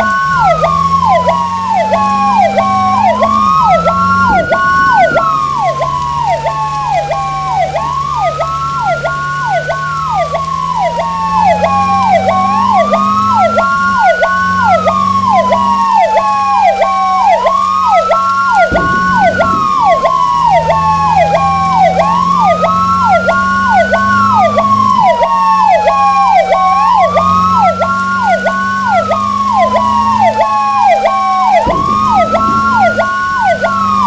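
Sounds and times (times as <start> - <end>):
fast pulsing siren: 0.0 - 34.0
wailing siren: 0.0 - 34.0.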